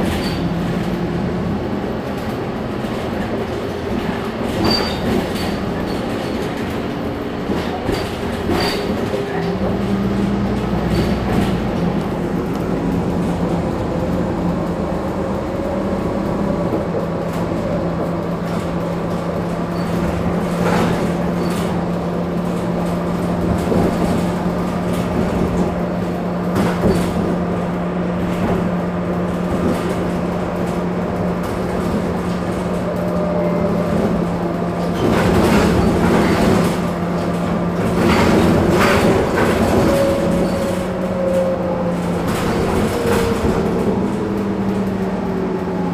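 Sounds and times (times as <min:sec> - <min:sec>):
bus engine idling: 0:00.0 - 0:45.9.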